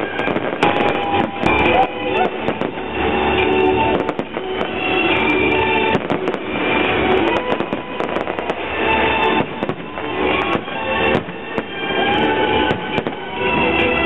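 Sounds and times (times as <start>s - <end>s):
fireworks bangs and crackling: 0.0s - 14.0s
music playing: 0.0s - 14.0s.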